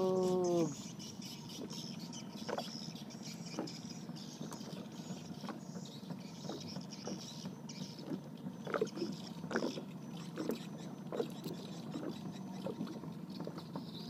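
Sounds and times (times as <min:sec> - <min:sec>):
water lapping: 0:00.0 - 0:14.0.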